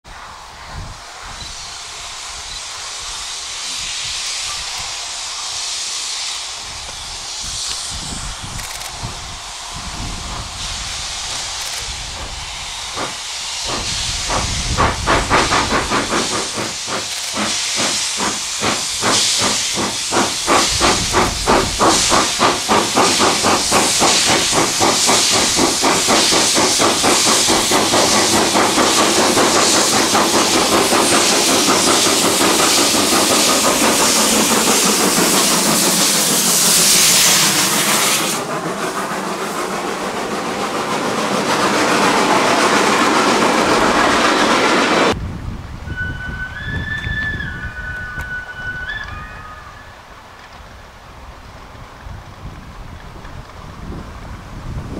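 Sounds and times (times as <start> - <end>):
steam hissing from cylinders: 0.1 - 45.2, 45.8 - 52.7
steam locomotive exhaust chuffs: 0.5 - 50.1.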